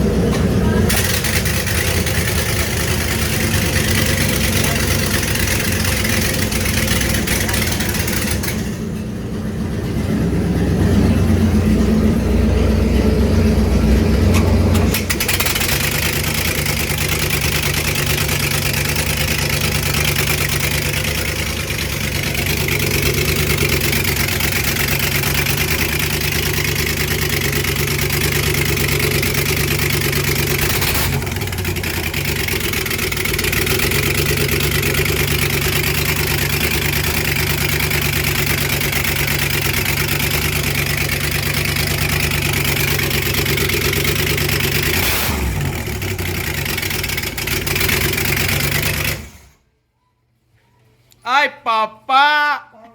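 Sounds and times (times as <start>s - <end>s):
boat engine idling: 0.0s - 49.5s.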